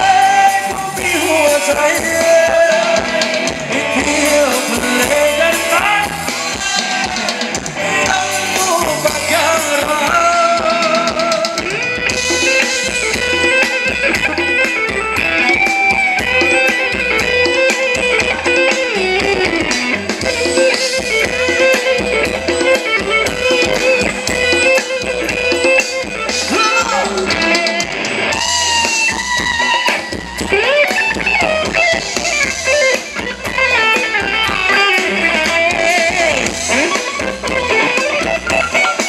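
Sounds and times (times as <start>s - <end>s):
electric guitar melody: 0.0s - 39.0s
steady drum beat: 0.0s - 39.0s.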